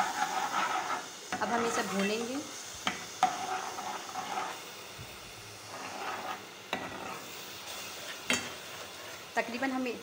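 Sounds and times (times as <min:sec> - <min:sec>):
spoon scraping pot: 0:00.0 - 0:04.6, 0:05.7 - 0:09.2
spices sizzling in oil: 0:00.0 - 0:10.0.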